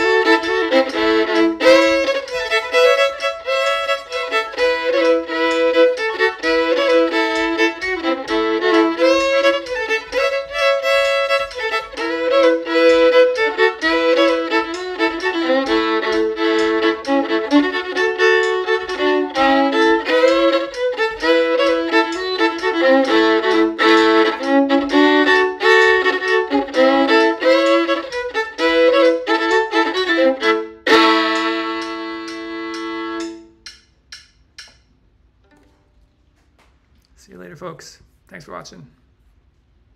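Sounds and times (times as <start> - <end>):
solo fiddle tune: 0.0 - 33.8.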